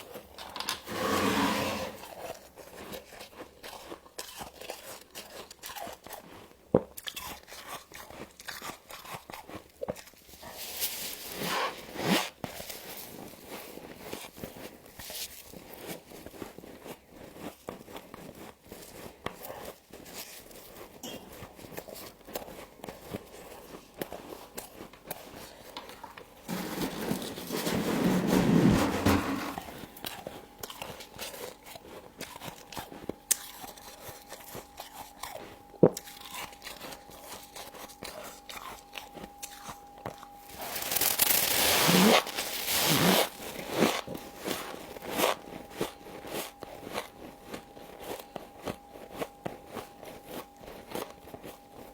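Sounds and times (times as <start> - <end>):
frost being chewed: 2.0 - 11.3, 12.5 - 26.5, 30.0 - 51.9.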